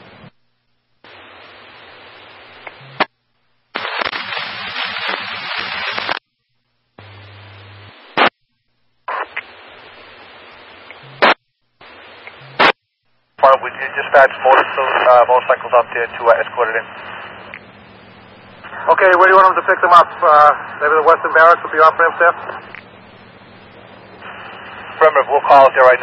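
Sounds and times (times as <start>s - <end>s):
radio static hiss: 0.0s - 6.3s, 7.0s - 8.4s, 9.0s - 26.0s.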